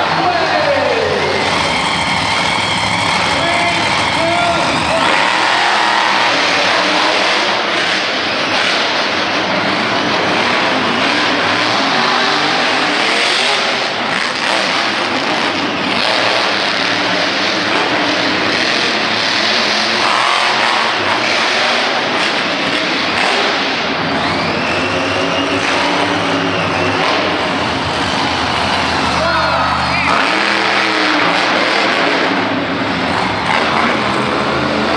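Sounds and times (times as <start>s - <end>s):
monster truck engine revving: 0.0s - 34.9s.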